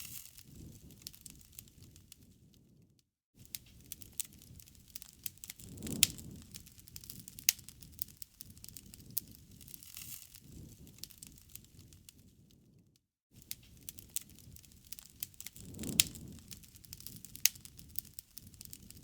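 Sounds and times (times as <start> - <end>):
low rush of flame: 0.0 - 2.8, 3.5 - 12.8, 13.4 - 19.0
wood bonfire crackling: 0.0 - 2.8, 3.4 - 12.8, 13.4 - 19.0.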